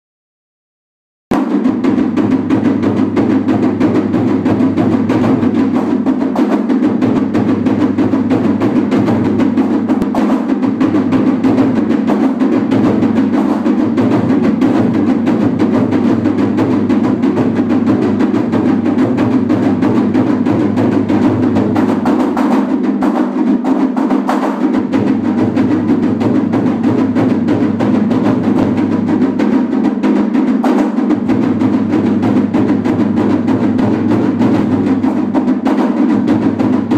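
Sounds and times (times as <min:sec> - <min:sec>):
taiko drums fast rhythm: 0:01.3 - 0:36.9.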